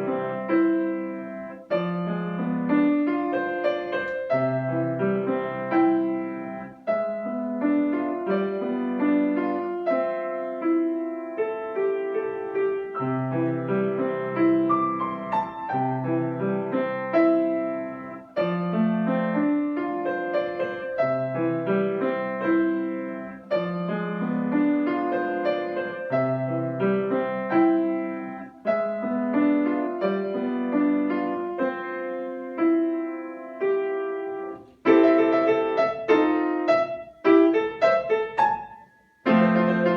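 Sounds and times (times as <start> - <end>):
solo piano piece: 0.0 - 39.9.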